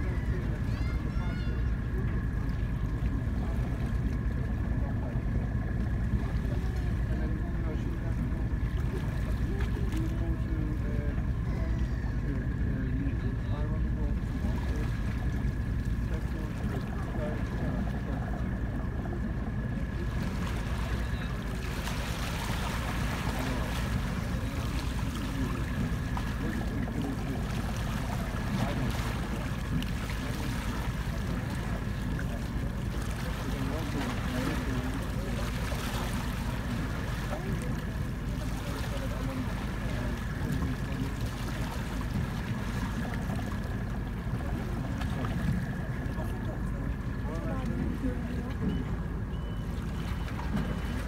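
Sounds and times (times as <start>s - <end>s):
faint thin whine: 0.0s - 51.0s
small water sounds: 0.0s - 51.0s
steady low rumble: 0.0s - 51.0s.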